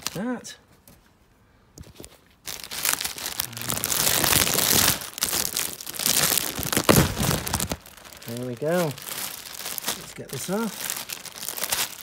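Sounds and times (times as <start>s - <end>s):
plastic bag crinkling: 0.0s - 0.4s, 2.0s - 12.0s.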